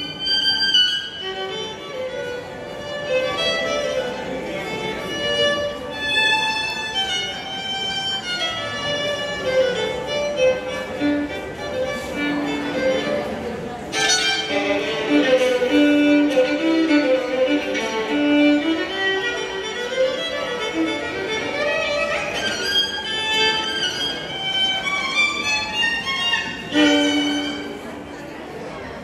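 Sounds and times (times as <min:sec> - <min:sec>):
solo violin melody: 0:00.0 - 0:28.2.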